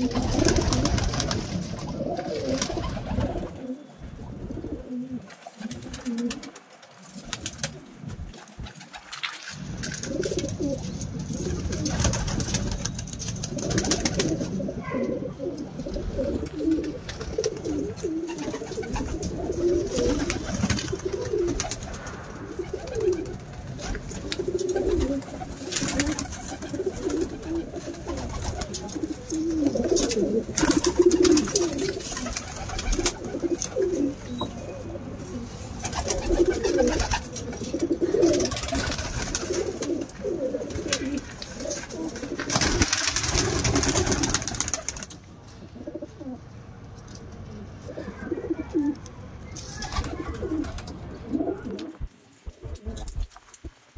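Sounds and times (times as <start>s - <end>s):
pigeons cooing: 0.0s - 46.5s, 47.5s - 53.4s.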